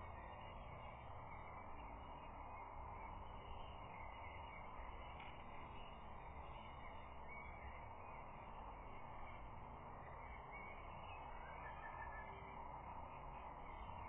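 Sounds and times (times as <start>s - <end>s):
distant bird calls: 0.0s - 14.0s.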